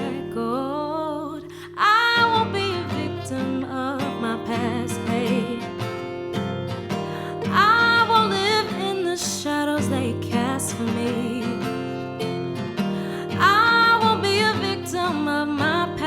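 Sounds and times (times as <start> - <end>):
woman singing: 0.0 - 6.3, 7.0 - 16.0
strummed acoustic guitar: 0.0 - 16.0.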